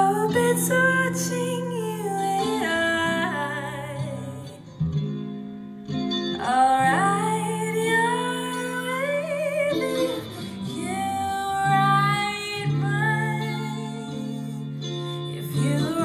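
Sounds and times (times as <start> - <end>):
woman singing with vibrato: 0.0 - 4.7, 6.4 - 16.0
electric guitar chords: 0.0 - 16.0.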